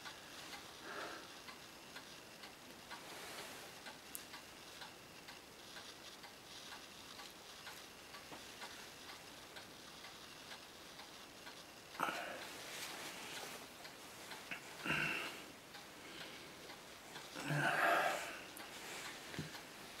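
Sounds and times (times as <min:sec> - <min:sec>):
faint light ticks and clicks: 0:00.0 - 0:20.0
room hiss: 0:00.0 - 0:20.0.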